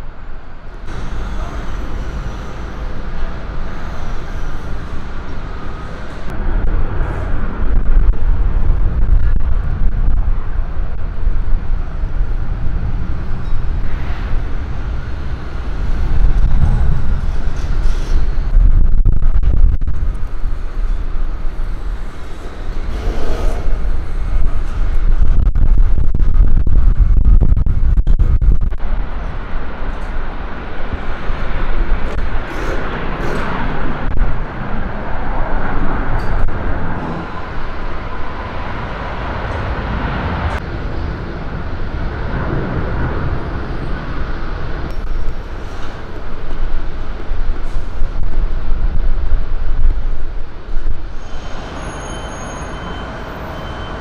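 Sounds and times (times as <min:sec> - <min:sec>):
road traffic rumble: 0:00.0 - 0:25.9, 0:26.9 - 0:54.0.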